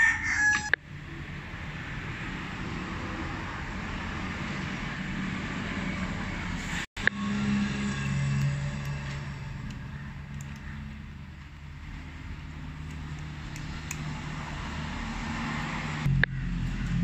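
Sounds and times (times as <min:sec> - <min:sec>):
low mechanical hum: 0:00.7 - 0:17.0.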